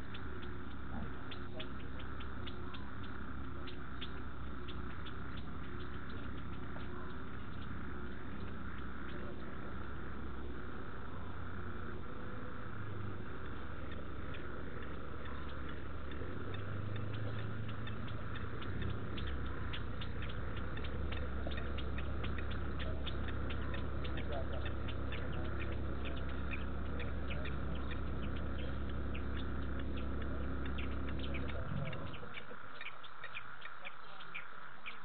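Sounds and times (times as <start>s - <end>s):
frogs clicking: 0.0s - 35.0s
insects trilling: 0.0s - 35.0s
low steady hum: 0.0s - 35.0s.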